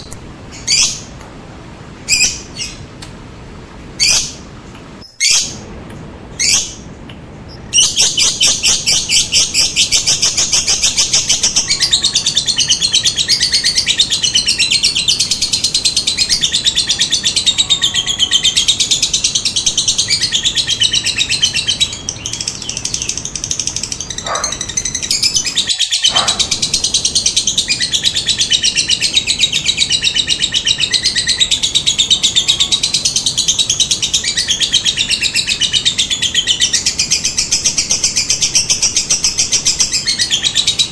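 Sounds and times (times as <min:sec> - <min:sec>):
lovebird chattering trill: 0:07.5 - 0:40.9.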